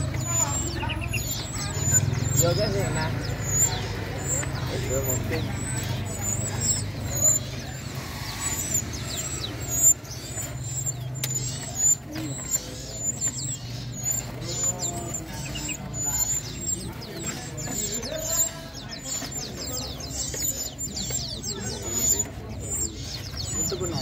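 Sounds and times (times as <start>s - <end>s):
songbirds chirping and singing: 0.0s - 24.0s.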